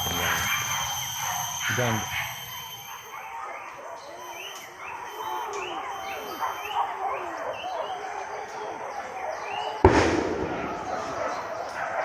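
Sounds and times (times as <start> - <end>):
dogs yelping and baying: 0.0 - 9.8, 10.4 - 12.0.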